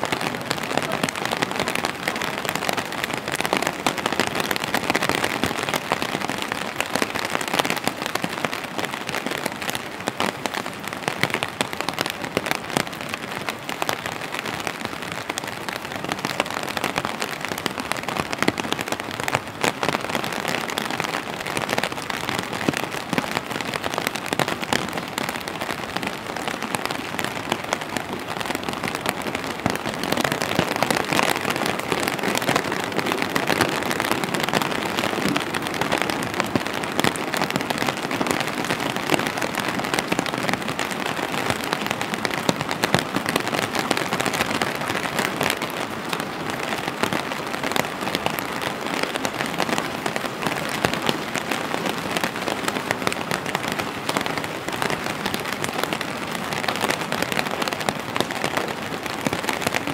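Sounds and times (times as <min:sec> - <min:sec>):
rain on an umbrella: 0:00.0 - 0:59.9
rain on wet pavement: 0:00.0 - 0:59.9.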